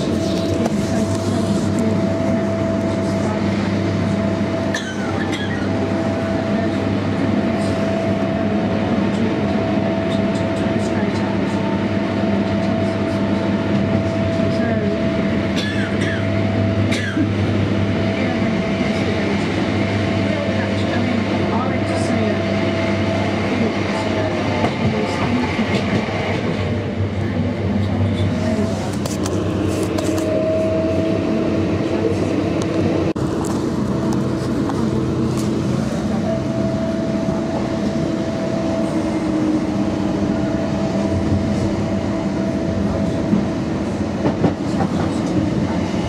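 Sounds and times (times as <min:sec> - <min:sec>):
electric train rumble and hum: 0:00.0 - 0:46.0.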